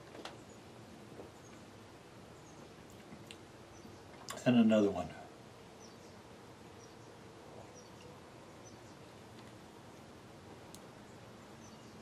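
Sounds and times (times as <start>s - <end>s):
distant small bird chirps: 0.0s - 12.0s.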